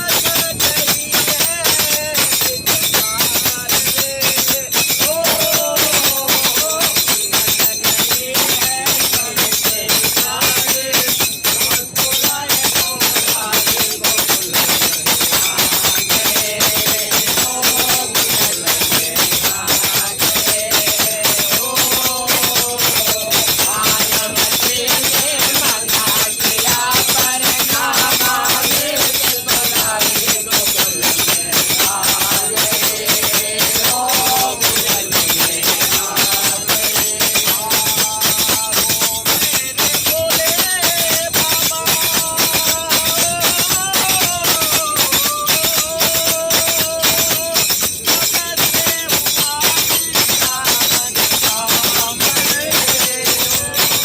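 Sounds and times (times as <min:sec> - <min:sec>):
jingling metal hand percussion: 0:00.0 - 0:54.0
person singing devotional melody: 0:00.0 - 0:54.0.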